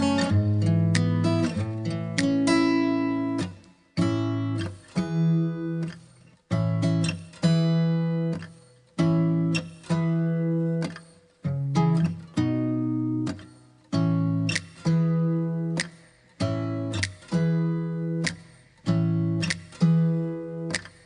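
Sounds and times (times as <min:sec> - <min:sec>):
acoustic guitar chords plucked: 0:00.0 - 0:21.0.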